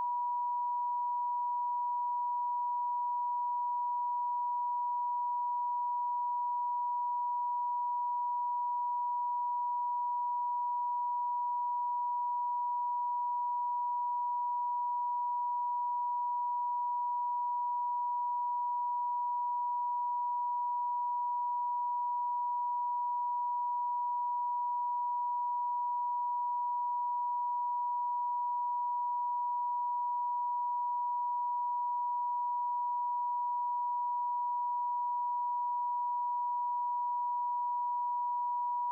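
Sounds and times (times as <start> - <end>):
high pure sine tone: 0.0 - 38.9.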